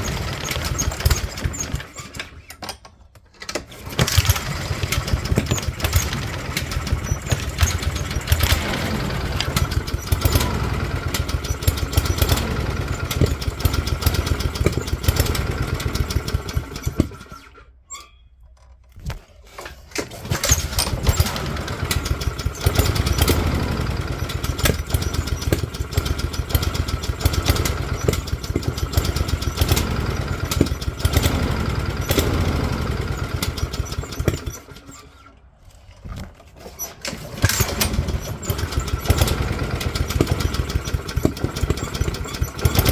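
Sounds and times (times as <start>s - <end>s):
lawnmower engine running unevenly: 0.0s - 2.4s, 3.4s - 17.6s, 19.6s - 42.9s.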